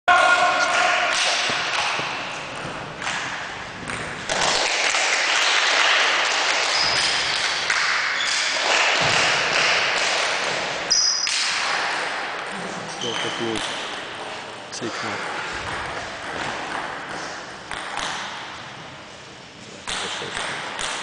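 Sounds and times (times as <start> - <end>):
background noise: 0.0 - 21.0.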